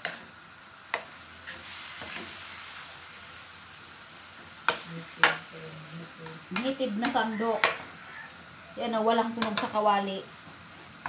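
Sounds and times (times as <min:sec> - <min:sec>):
snails sizzling in a wok: 0:00.0 - 0:11.0.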